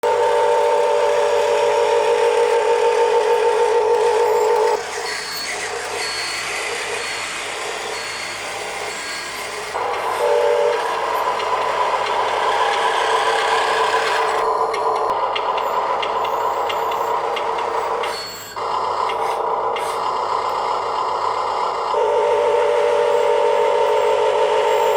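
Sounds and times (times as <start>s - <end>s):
electric motors whining: 0.0s - 24.9s.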